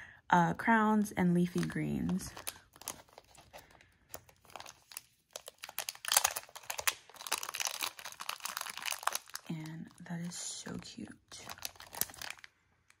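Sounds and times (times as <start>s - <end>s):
plastic bag crinkling: 1.4s - 13.0s.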